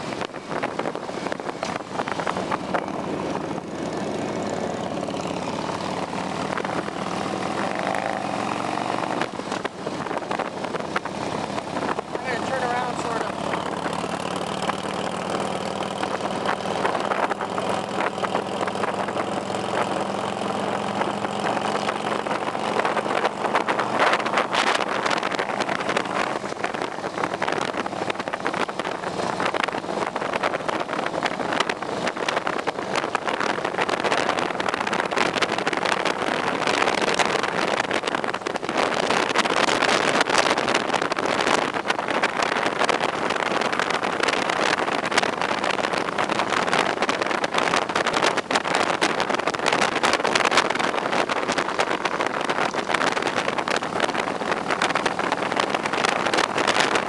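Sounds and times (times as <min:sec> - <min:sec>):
motorcycle engine hum: 0:00.0 - 0:57.0
wind buffeting microphone: 0:00.0 - 0:57.0.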